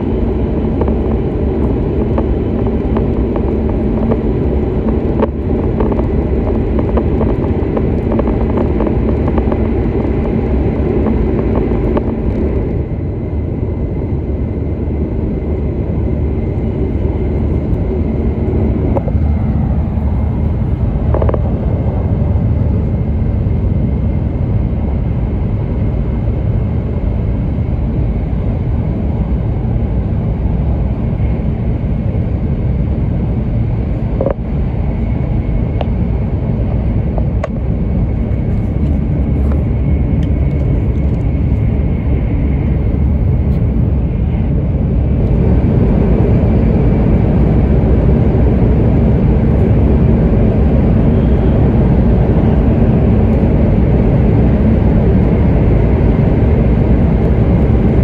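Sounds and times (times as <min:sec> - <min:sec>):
train cabin running rumble: 0:00.0 - 0:58.0.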